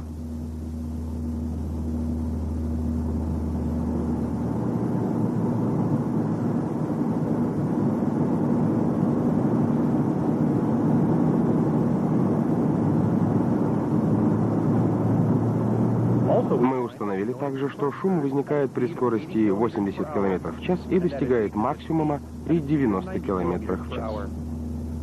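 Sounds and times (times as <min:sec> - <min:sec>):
road noise in car cabin: 0:00.0 - 0:25.0
steady low hum: 0:00.0 - 0:25.0.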